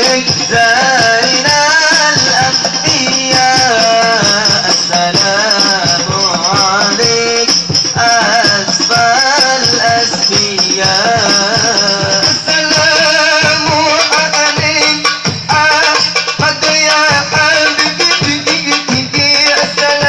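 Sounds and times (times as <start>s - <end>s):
frame drums beating: 0.0s - 20.0s
solo voice singing: 0.0s - 20.0s.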